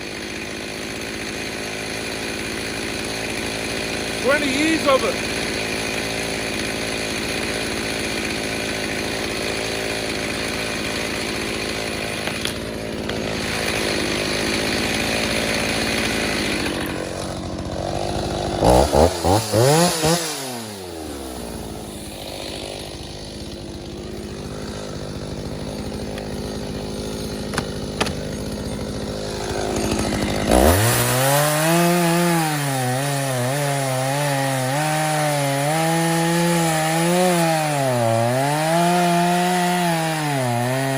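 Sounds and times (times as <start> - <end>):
chainsaw revving and idling: 0.0 - 40.9.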